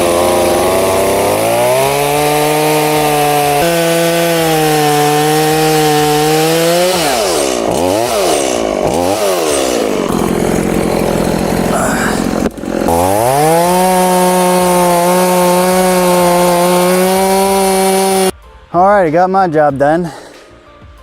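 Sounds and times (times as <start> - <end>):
chainsaw cutting wood: 0.0 - 18.3.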